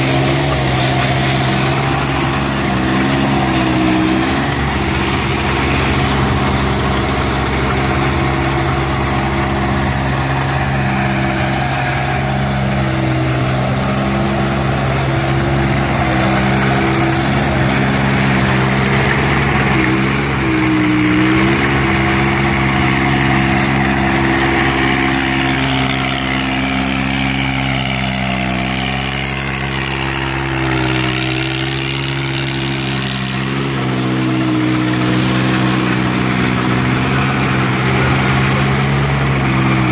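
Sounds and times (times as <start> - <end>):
rotavator churning soil: 0.0 - 39.9
tractor diesel engine under load: 0.0 - 39.9.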